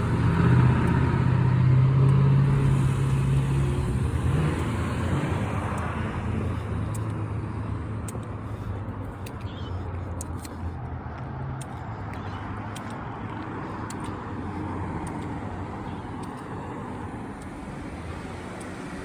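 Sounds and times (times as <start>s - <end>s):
car engine hum: 0.0s - 19.0s
road noise: 0.0s - 19.0s.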